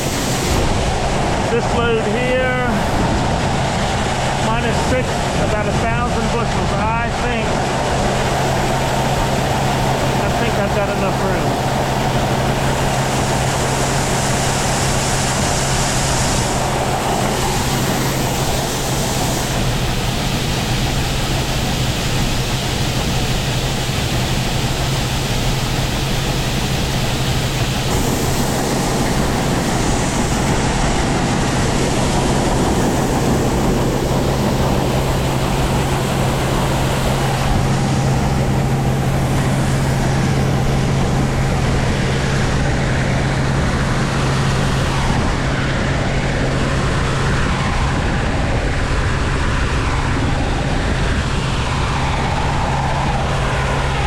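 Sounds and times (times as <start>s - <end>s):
machinery humming: 0.0s - 54.0s.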